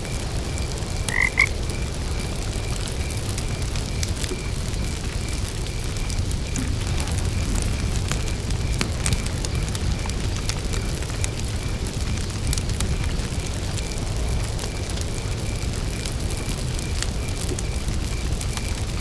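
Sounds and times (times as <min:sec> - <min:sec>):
campfire crackling and popping: 0:00.0 - 0:19.0
cricket chirping: 0:00.0 - 0:19.0.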